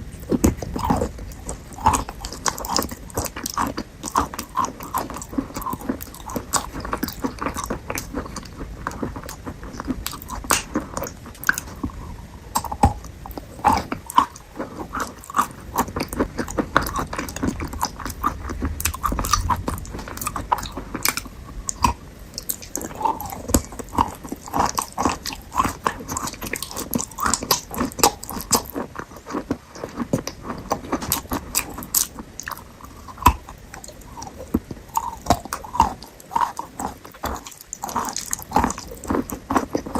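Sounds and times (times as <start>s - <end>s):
crunchy fruit bites: 0.0s - 39.9s
wet smacking chewing: 0.2s - 39.9s.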